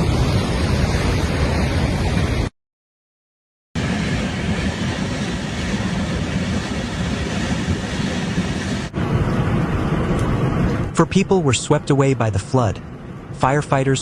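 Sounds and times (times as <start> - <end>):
roar of floodwater in river: 0.0 - 2.5, 3.8 - 14.0.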